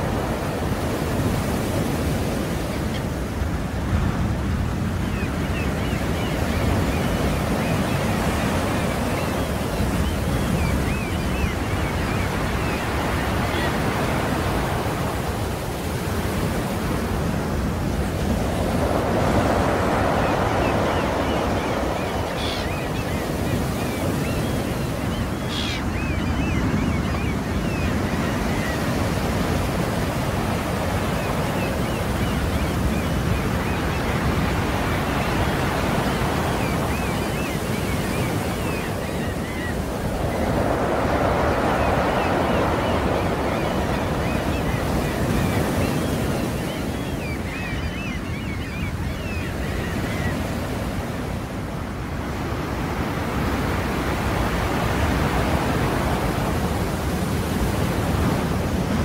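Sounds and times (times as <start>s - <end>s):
sea waves breaking on shore: 0.0s - 59.0s
wind: 0.0s - 59.0s.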